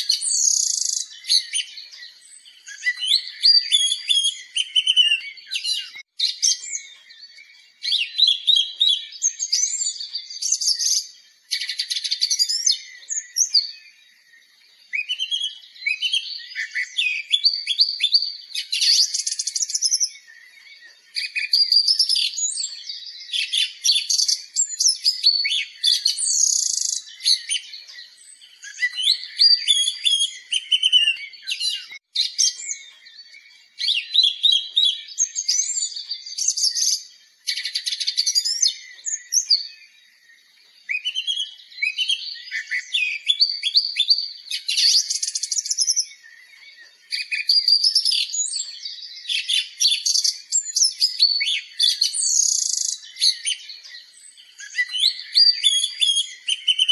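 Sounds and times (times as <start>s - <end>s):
birds singing chirps and trills: 0.0s - 56.9s.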